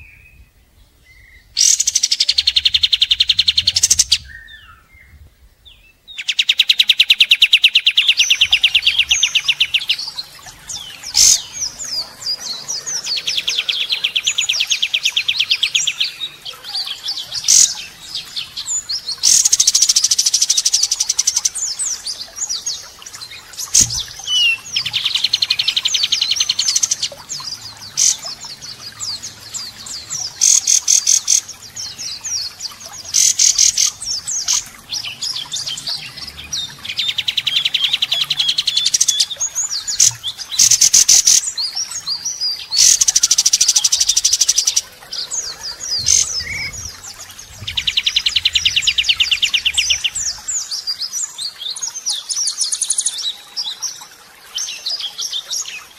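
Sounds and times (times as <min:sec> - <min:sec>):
bird singing varied song: 0:00.0 - 0:55.9.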